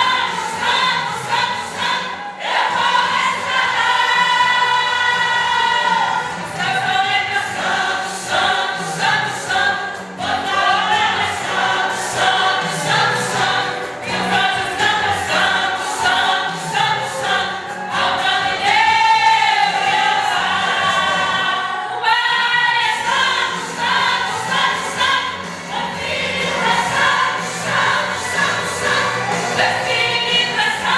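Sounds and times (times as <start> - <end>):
group singing gospel song: 0.0 - 30.9.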